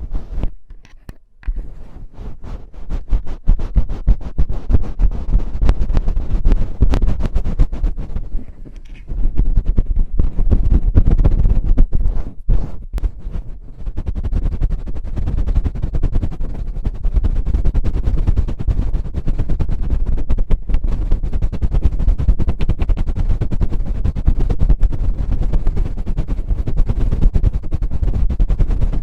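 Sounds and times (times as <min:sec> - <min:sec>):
feather wand tapping microphone: 0:00.0 - 0:29.0.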